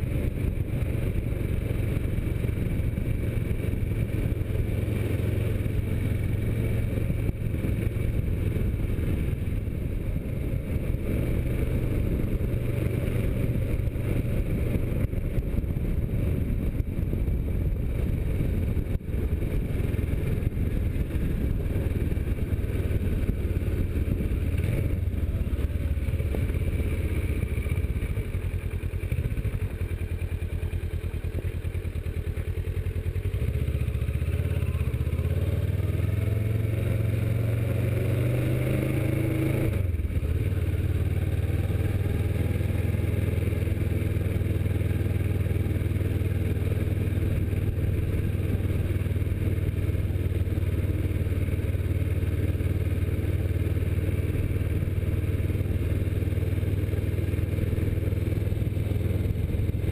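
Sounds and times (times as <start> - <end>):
motorcycle engine running: 0.0 - 59.9
road and wind rumble: 0.0 - 59.9.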